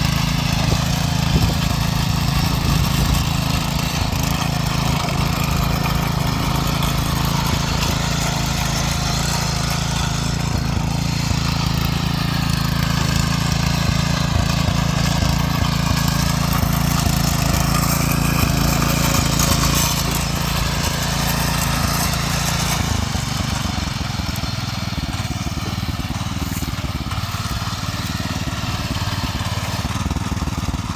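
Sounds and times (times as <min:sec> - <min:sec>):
tiller engine running: 0:00.0 - 0:30.9.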